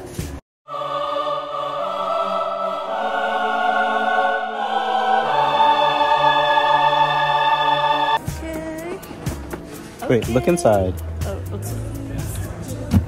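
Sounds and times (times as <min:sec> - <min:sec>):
background music of long held chords: 0:00.7 - 0:13.0.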